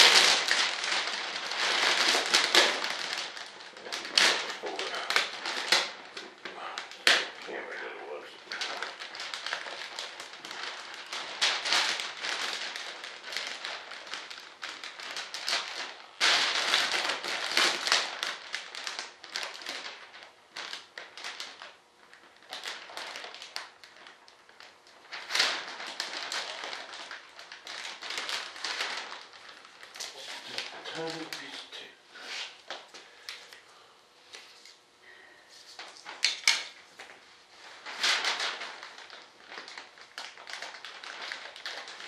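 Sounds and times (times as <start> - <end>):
plastic film crinkling: 0.0 - 42.0.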